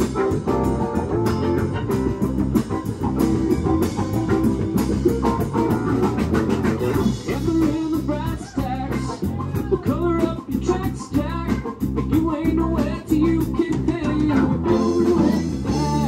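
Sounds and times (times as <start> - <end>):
bass guitar: 0.0 - 16.0
drum kit: 0.0 - 16.0
electric guitar: 0.0 - 16.0
keyboards: 0.0 - 16.0.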